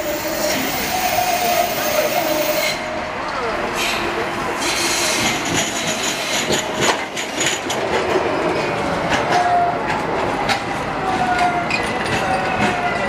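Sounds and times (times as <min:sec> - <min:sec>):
tram wheels clacking over rails: 0:00.0 - 0:13.0.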